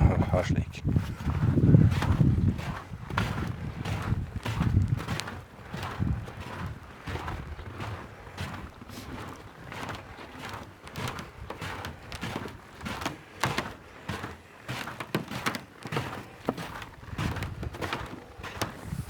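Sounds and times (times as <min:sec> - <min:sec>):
footsteps on frozen snow: 0:00.0 - 0:19.0.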